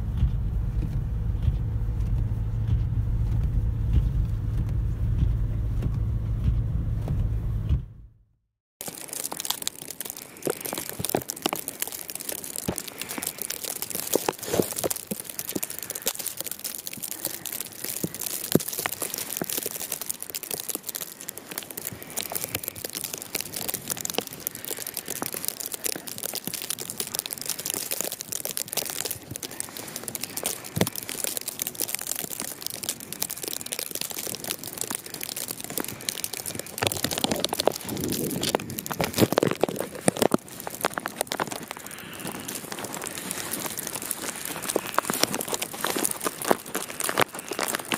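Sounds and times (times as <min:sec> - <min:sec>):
crackling and crinkling: 0:00.0 - 0:07.4, 0:08.8 - 0:47.9.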